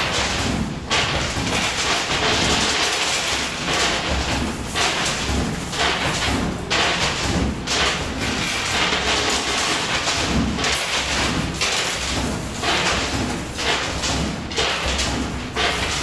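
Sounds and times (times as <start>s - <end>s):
coins clattering on metal: 1.0s - 14.0s, 14.6s - 16.0s.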